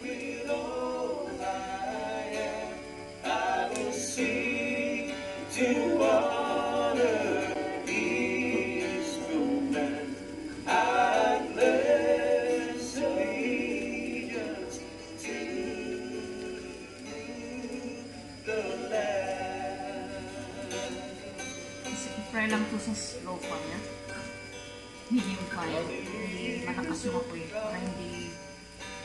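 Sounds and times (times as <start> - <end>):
background music with singing: 0.0 - 29.0.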